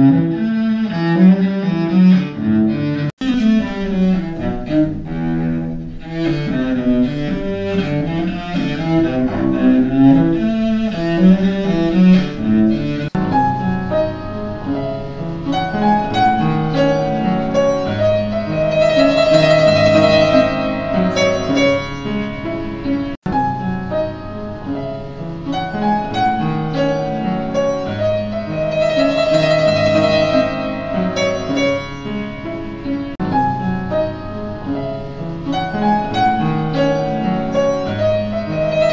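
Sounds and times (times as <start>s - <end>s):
cello playing bowed notes: 0.0s - 38.9s
upright piano playing: 0.0s - 38.9s.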